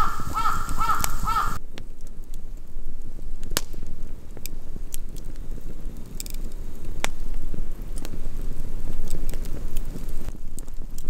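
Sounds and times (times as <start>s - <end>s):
low fire rumble: 0.0s - 11.0s
wood fire crackling and popping: 0.0s - 11.0s.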